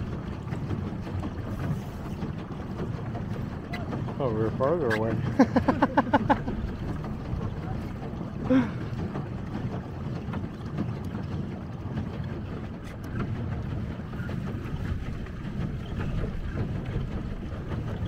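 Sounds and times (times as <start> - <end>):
water sloshing: 0.0 - 18.0
wind buffeting microphone: 0.0 - 18.0.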